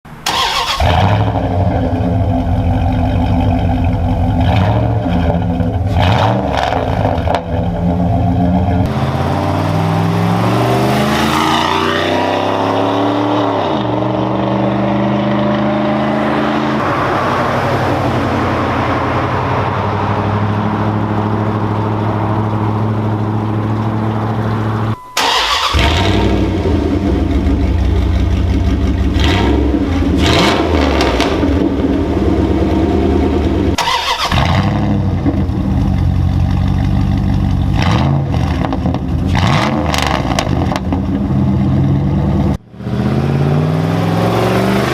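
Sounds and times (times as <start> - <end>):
car exhaust idling and revving: 0.8 - 44.9.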